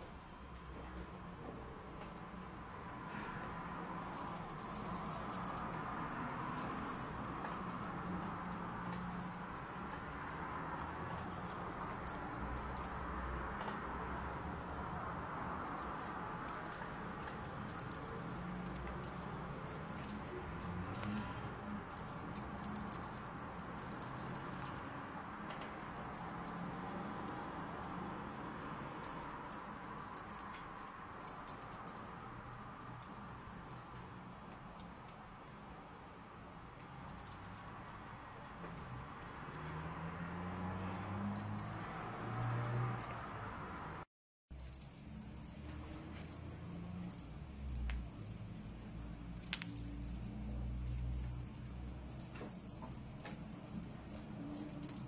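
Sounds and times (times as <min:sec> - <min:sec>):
small bells jingling: 0:00.0 - 0:00.8, 0:02.1 - 0:13.6, 0:15.6 - 0:35.1, 0:37.1 - 0:55.0.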